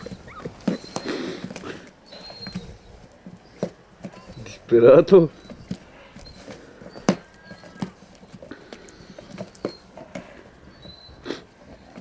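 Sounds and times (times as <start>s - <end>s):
dog gnawing on rubber tyre: 0.0s - 12.0s.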